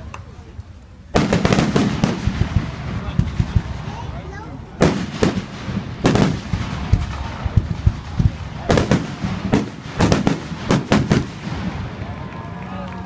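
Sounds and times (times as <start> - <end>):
dull low firework booms: 1.1 - 12.2
sharp firework bangs: 1.2 - 12.2.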